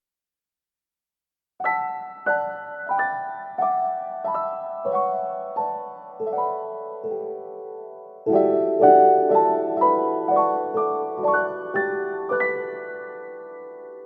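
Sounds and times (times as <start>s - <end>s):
soft slow piano music: 1.6s - 14.0s.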